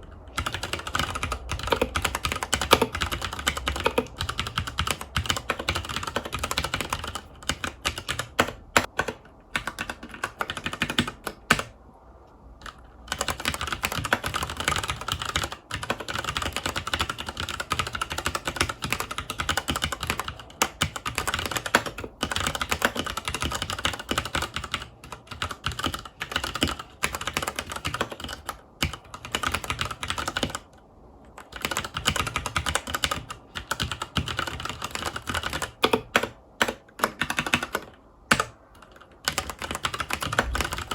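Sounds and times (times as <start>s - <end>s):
mechanical keyboard typing: 0.3s - 11.8s, 12.6s - 40.9s.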